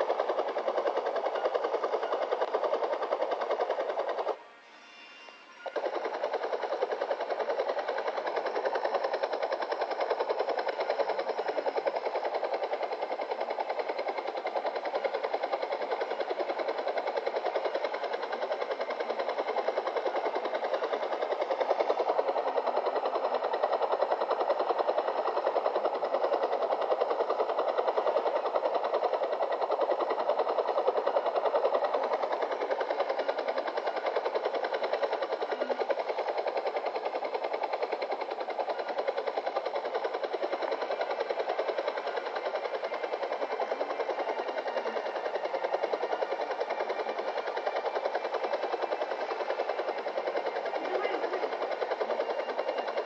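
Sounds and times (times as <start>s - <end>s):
helicopter rotor chop: 0.0s - 53.0s
machine pulsing rapidly: 0.0s - 53.0s.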